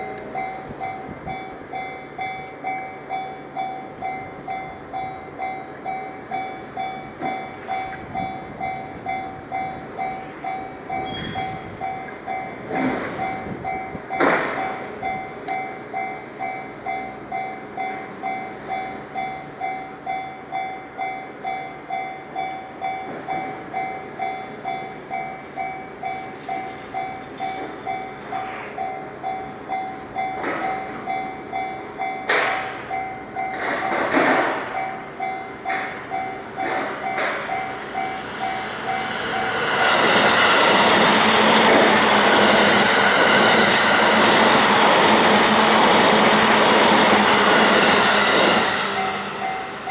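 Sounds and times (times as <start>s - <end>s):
train passing: 0.0s - 49.9s.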